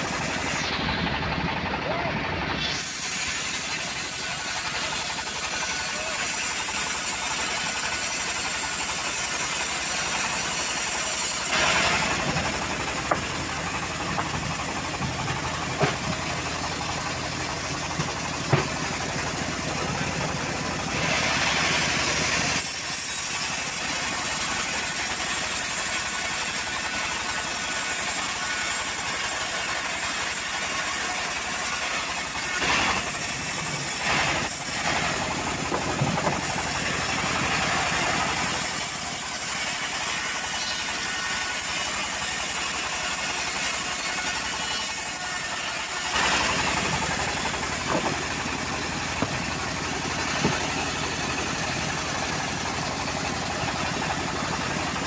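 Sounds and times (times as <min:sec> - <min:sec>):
band sawmill ripping wood: 0:02.6 - 0:16.4, 0:17.8 - 0:55.0.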